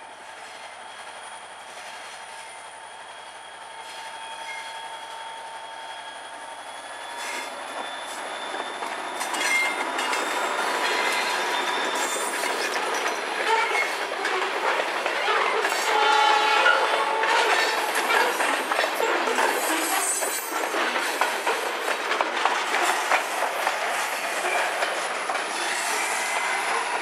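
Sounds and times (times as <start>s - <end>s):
train wheels squealing: 0.1s - 27.0s.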